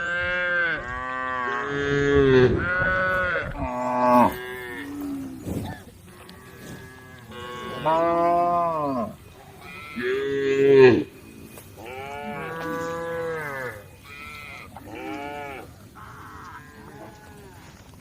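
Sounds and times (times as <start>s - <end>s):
cows mooing: 0.0s - 17.9s.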